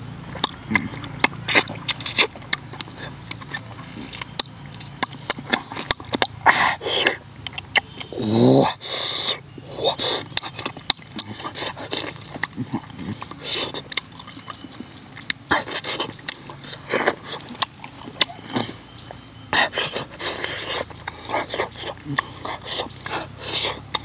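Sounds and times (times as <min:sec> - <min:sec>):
high insect drone: 0:00.0 - 0:24.0
wet chewing and lip smacking: 0:00.2 - 0:24.0.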